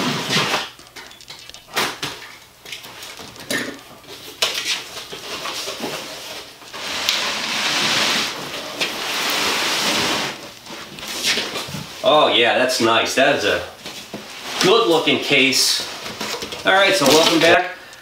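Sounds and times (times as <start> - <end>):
cardboard and paper rustling: 0.3 - 12.1, 13.8 - 17.7.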